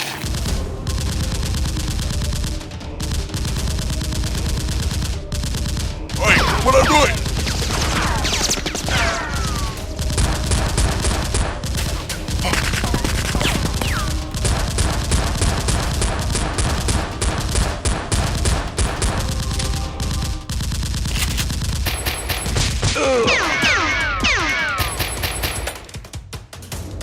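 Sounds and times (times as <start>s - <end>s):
rapid automatic gunfire: 0.0s - 27.0s.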